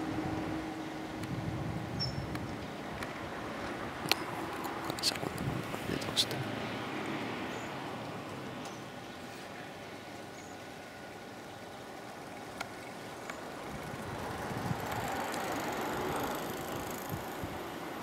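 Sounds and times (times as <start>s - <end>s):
outdoor rumble and hiss: 0.0s - 18.0s.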